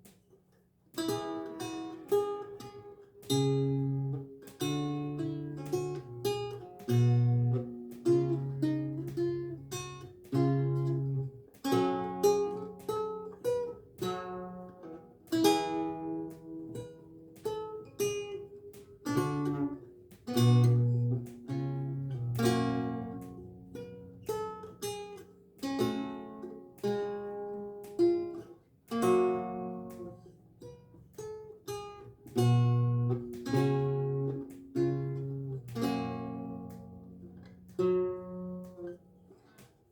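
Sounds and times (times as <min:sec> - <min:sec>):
lute plucked solo: 0:00.9 - 0:39.9.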